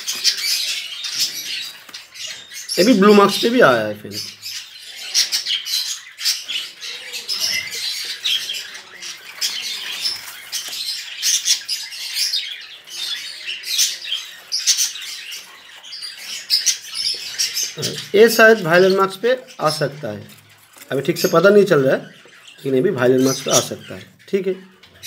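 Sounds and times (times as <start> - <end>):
budgerigars chirping and squawking: 0.0 - 25.0.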